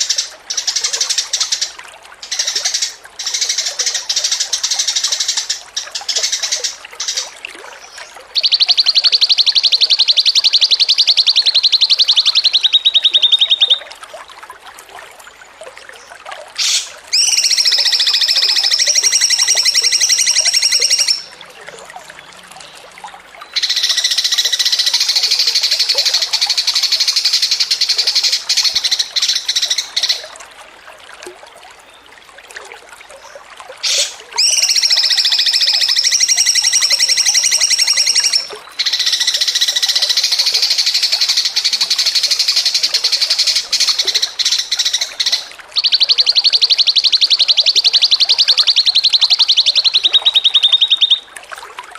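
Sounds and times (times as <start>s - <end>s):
songbird trilling: 0.0s - 7.3s, 8.4s - 13.8s, 16.6s - 21.4s, 23.6s - 30.2s, 33.8s - 51.3s.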